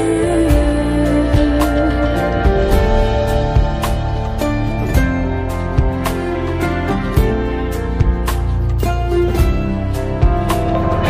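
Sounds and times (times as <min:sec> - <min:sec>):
slow tender instrumental music: 0:00.0 - 0:11.0.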